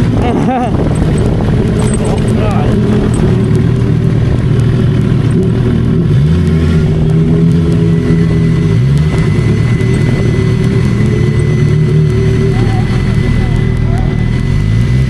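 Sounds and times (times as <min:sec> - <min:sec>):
motorcycle engine accelerating: 0:00.0 - 0:15.0
wind noise: 0:00.0 - 0:15.0.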